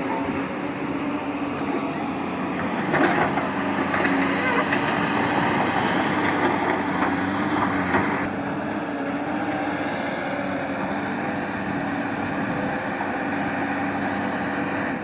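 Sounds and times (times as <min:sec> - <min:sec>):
diesel machinery engine drone: 0:00.0 - 0:15.0.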